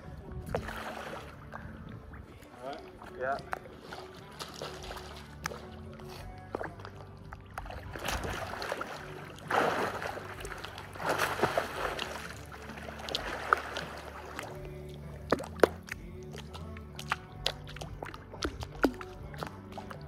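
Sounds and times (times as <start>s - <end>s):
pool water splashing: 0.0s - 20.0s.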